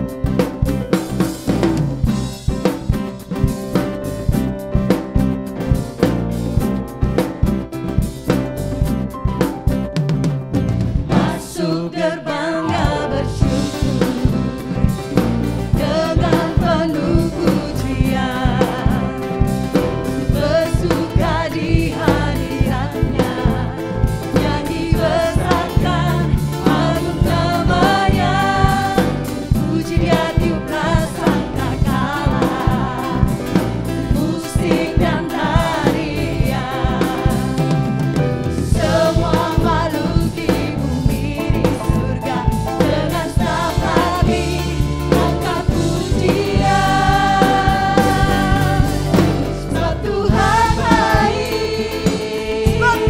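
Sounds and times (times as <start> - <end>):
steady drum beat: 0.0 - 12.1, 12.7 - 53.0
band and singers performing gospel: 0.0 - 53.0.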